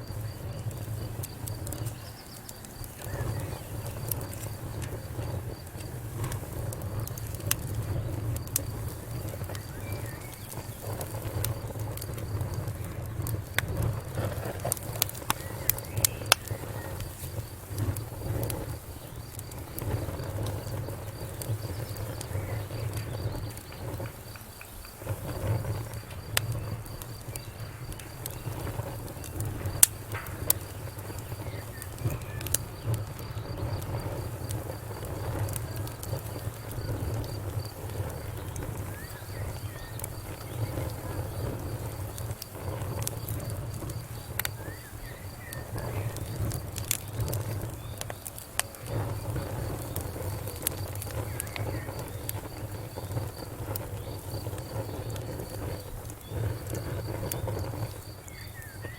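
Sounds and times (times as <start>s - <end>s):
low rumble of burning: 0.0s - 58.9s
wood fire crackling: 0.0s - 58.9s
sharp pops and snaps: 0.6s - 58.9s.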